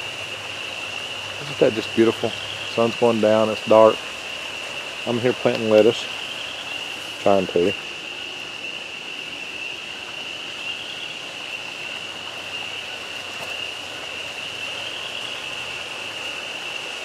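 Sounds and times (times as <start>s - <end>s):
spring peepers chorus: 0.0s - 17.0s
water trickling and bubbling: 0.0s - 17.0s.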